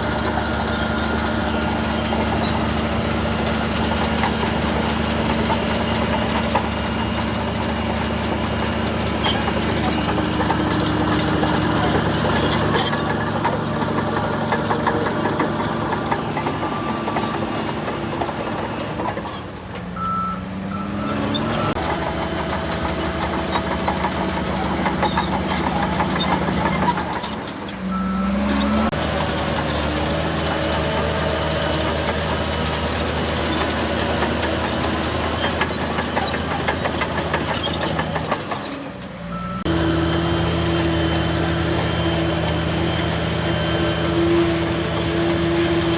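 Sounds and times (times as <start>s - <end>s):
heavy machinery diesel engines running: 0.0s - 45.9s.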